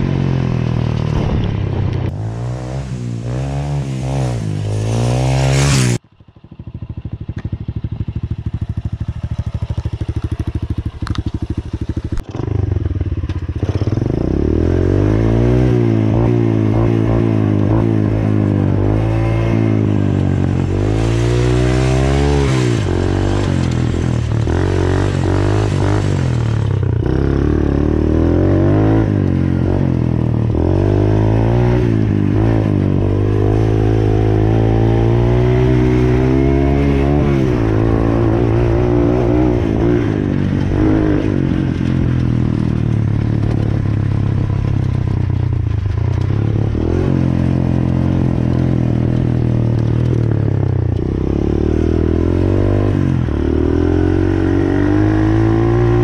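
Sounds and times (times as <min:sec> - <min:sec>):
dirt bike engine revving: 0:02.1 - 0:06.0, 0:11.4 - 0:44.8, 0:46.1 - 0:56.0.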